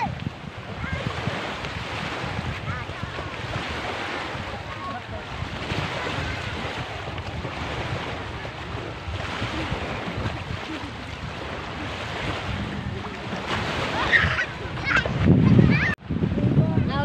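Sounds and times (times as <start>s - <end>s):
small waves on beach: 0.0s - 17.0s
wind buffeting microphone: 0.0s - 17.0s.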